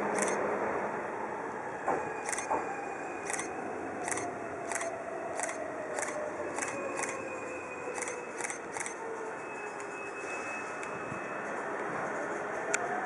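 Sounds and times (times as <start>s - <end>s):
electric train inverter whine: 0.0s - 13.0s.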